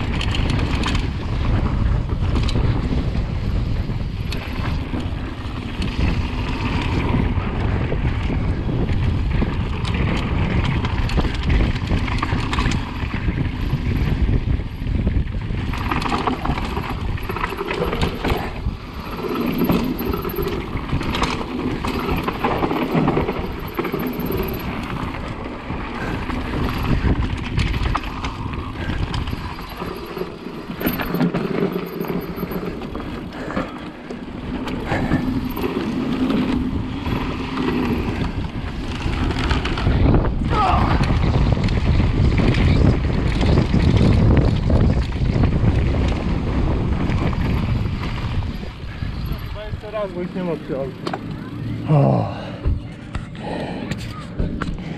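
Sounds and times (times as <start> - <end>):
bike knocking and rattling: 0.0 - 54.9
tyres rolling over dirt: 0.0 - 54.9
wind on microphone: 0.0 - 54.9.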